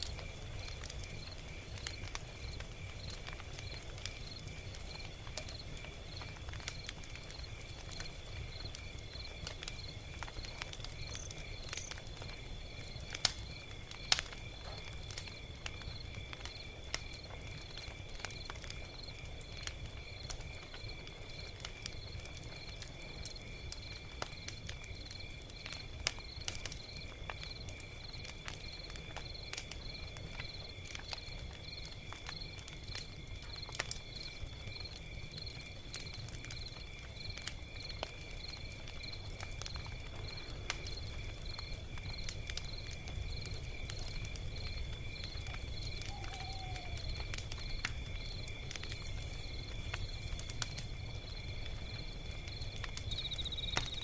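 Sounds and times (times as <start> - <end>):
log fire crackling and popping: 0.0 - 54.0.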